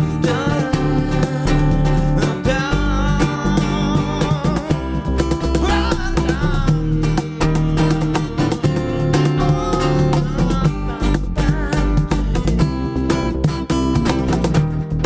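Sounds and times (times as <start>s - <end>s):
instrumental guitar band music: 0.0s - 15.0s.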